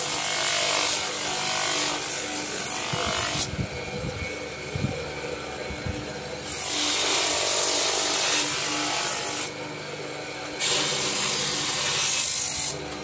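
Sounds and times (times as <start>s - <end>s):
drum sander motor running: 0.0s - 13.0s.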